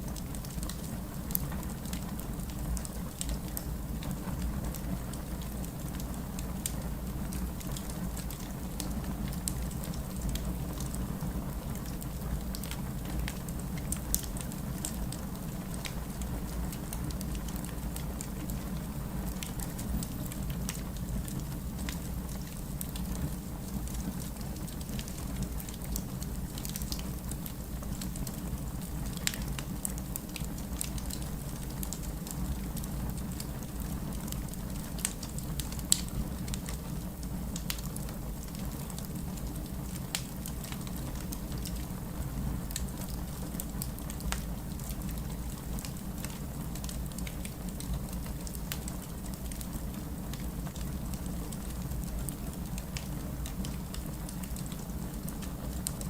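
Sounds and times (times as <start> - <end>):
wood fire crackling and popping: 0.1 - 56.0.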